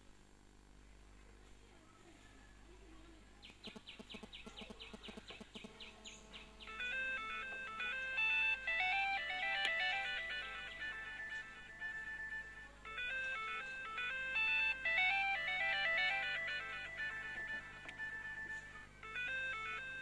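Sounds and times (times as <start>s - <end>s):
electronic beeping melody: 3.7s - 20.0s.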